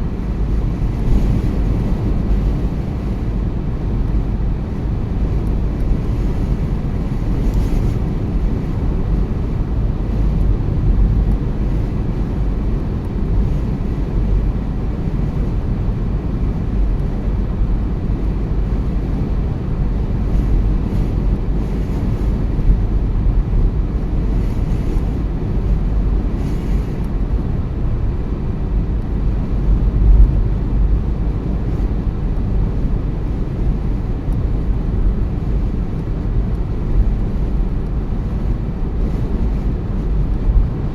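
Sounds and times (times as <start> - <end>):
car interior road and engine rumble: 0.0 - 40.9.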